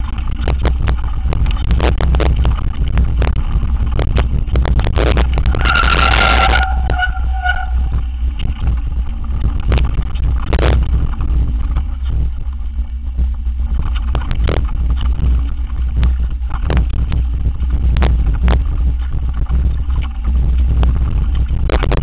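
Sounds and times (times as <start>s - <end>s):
bike knocking and rattling on rocks: 0.0s - 22.0s
bike tyres rolling on dirt: 0.0s - 22.0s
wind on microphone: 0.0s - 22.0s.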